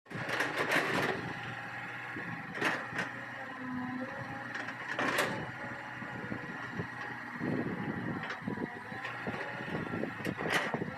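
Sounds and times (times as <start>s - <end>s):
excavator engine hum and whine: 0.1s - 10.9s.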